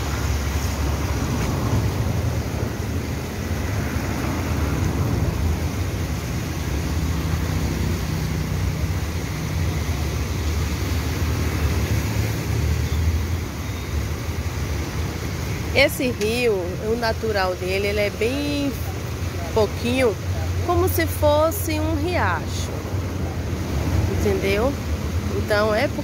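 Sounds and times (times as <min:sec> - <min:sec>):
car traffic: 0:00.0 - 0:26.0
river water rushing: 0:00.0 - 0:26.0.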